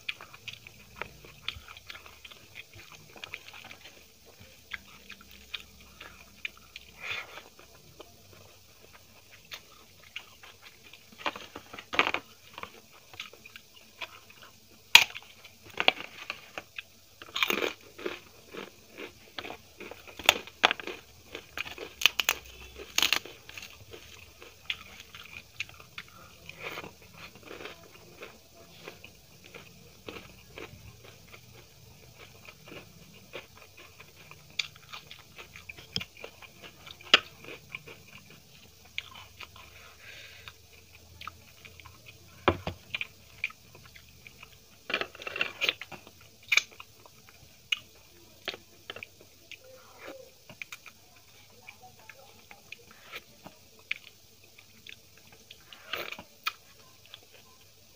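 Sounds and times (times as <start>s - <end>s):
person chewing crunchy food: 0.0s - 57.9s.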